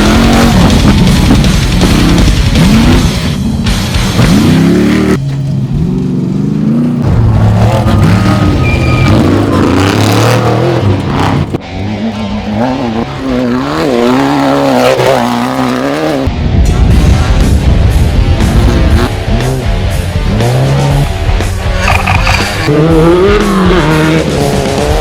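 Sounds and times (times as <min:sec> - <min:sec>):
race vehicle engine revving: 0:00.0 - 0:16.3, 0:18.2 - 0:25.0
background music: 0:00.0 - 0:25.0.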